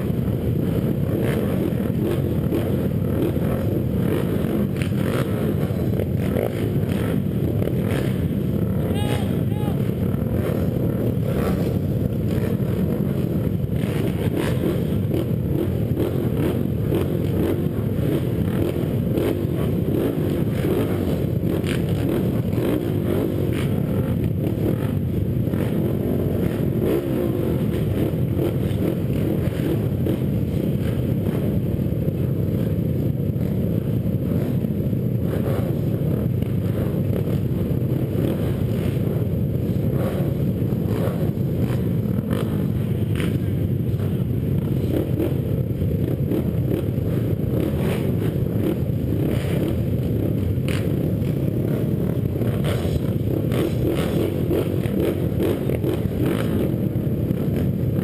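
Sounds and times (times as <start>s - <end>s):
atv engines idling: 0.0s - 58.0s.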